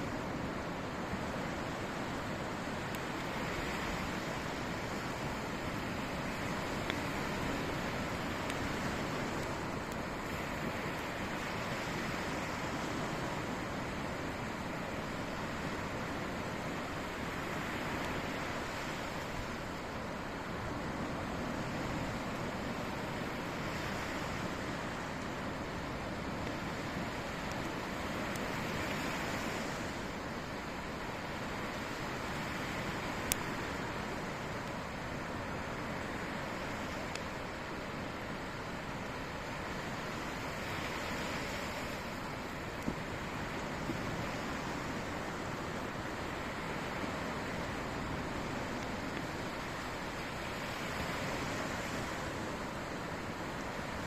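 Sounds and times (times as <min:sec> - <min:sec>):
sea surf washing: 0:00.0 - 0:54.0
campfire crackling: 0:00.7 - 0:51.9.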